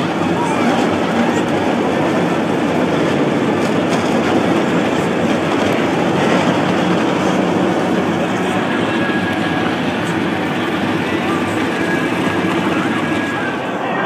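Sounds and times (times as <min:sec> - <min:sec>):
race truck engines rumbling: 0:00.0 - 0:14.0.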